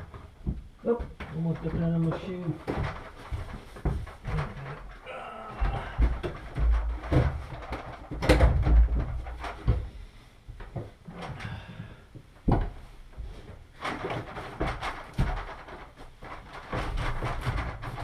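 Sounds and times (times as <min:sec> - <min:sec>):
rustling and handling noise: 0:00.0 - 0:18.0.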